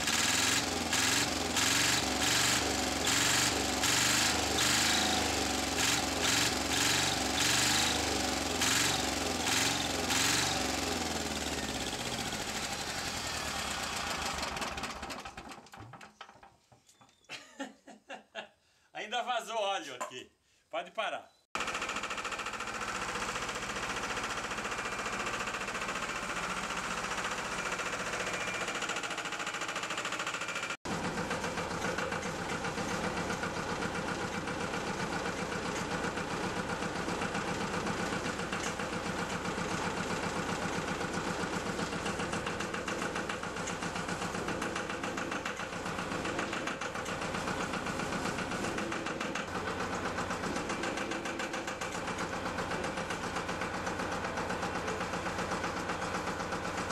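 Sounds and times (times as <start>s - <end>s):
loader engine running: 0.0s - 15.5s, 21.6s - 56.9s.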